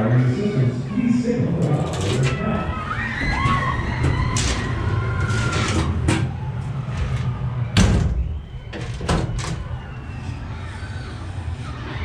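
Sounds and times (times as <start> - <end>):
ride car rolling rumble: 1.1 - 12.0.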